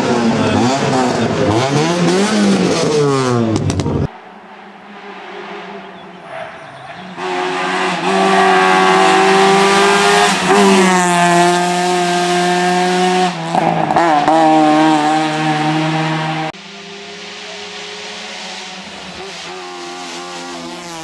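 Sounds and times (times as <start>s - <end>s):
rally car engine at high revs: 0.0s - 21.0s.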